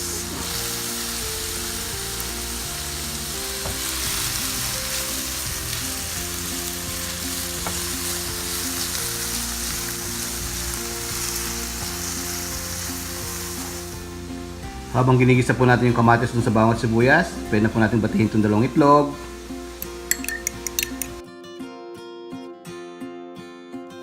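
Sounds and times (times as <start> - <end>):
tomato sizzling in hot oil: 0.0 - 21.2.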